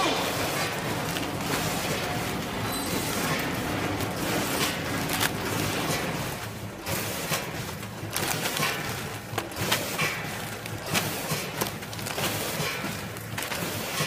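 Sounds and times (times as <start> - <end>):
machine clacks and knocks: 0.0 - 14.0
packing machine humming: 0.0 - 14.0.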